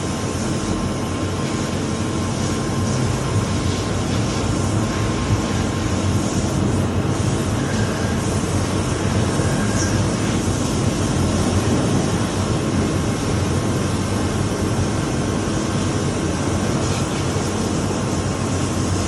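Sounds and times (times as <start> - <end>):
faint mechanical whine: 0.0 - 19.0.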